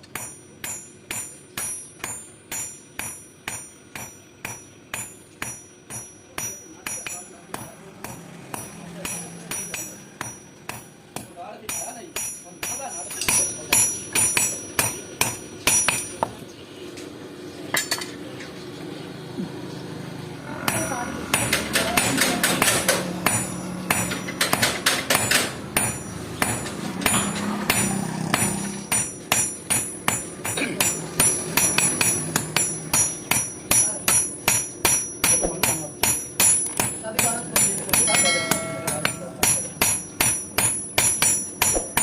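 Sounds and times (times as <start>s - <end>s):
hammer striking hot steel on anvil: 0.0s - 16.4s, 20.6s - 42.0s.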